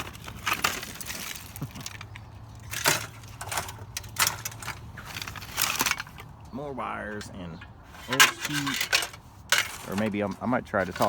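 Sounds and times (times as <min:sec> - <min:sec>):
scrap metal clinking and rattling: 0:00.0 - 0:06.4, 0:07.1 - 0:11.0.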